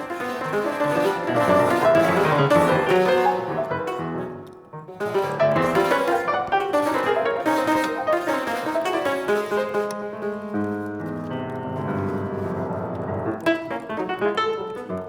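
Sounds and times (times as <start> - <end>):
piano playing fast clusters: 0.0 - 15.0.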